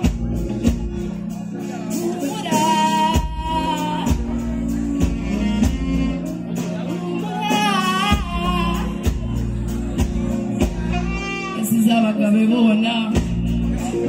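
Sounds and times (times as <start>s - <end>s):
live band playing: 0.0s - 14.0s
woman singing: 1.9s - 14.0s.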